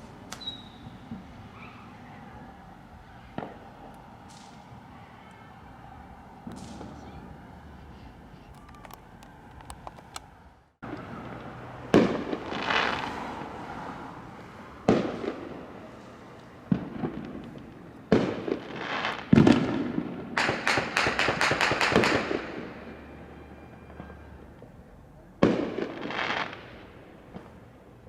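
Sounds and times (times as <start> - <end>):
fireworks bangs and crackle: 0.0 - 5.6, 6.2 - 7.5, 10.8 - 28.0.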